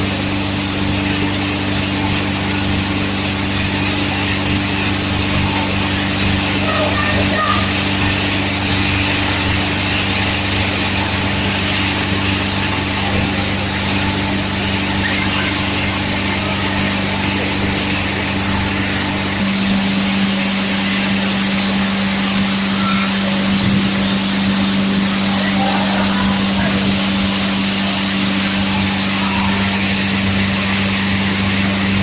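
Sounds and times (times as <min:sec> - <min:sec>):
electric motor hum: 0:00.0 - 0:32.0.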